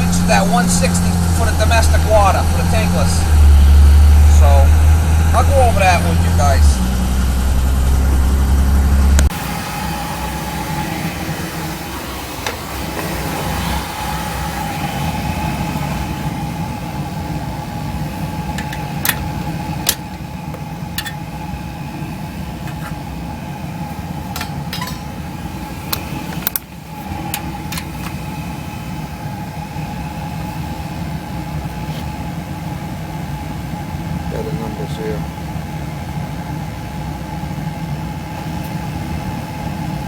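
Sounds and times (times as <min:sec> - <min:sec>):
oil burner running: 0:00.0 - 0:40.0.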